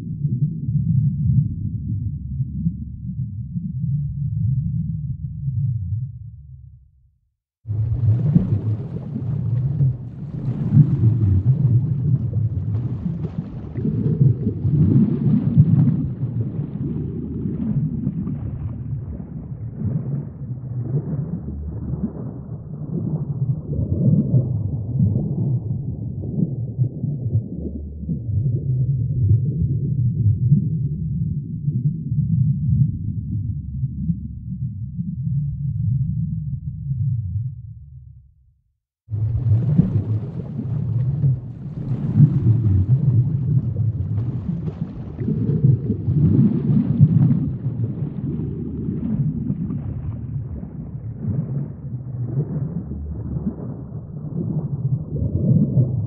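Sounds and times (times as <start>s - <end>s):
muffled rumbling water: 0.0s - 38.4s, 39.0s - 56.0s.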